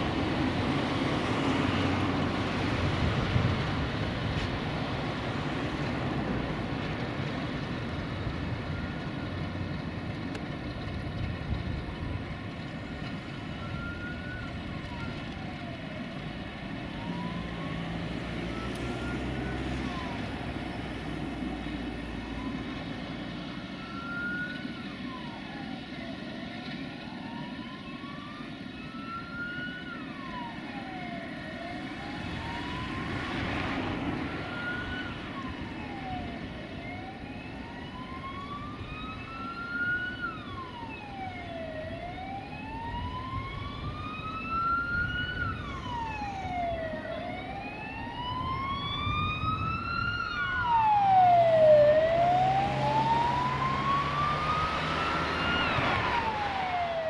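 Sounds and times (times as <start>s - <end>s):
emergency vehicle siren wailing: 0.0s - 57.0s.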